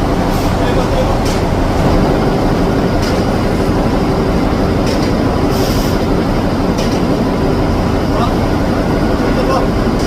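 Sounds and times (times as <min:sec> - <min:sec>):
crane machinery rumbling: 0:00.0 - 0:10.0.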